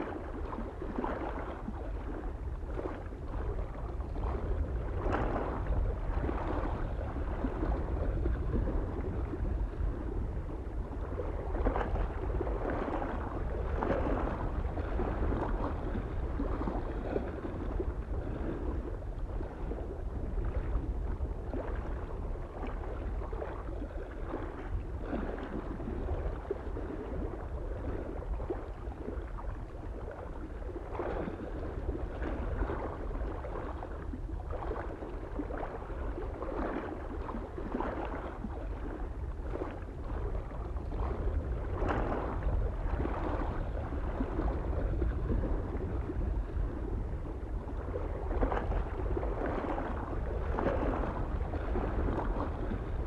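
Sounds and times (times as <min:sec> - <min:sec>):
low wind rumble: 0:00.0 - 0:53.0
waves lapping on shore: 0:00.0 - 0:53.0.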